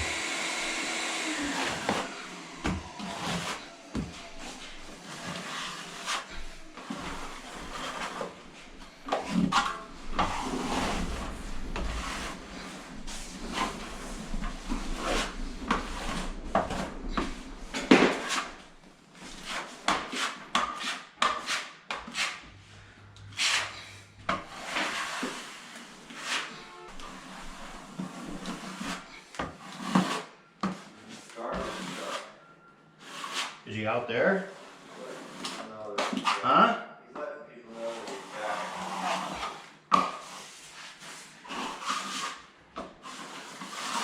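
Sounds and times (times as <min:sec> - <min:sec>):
scraping and rubbing on wood: 0:00.0 - 0:32.4, 0:34.5 - 0:36.5, 0:37.8 - 0:44.0.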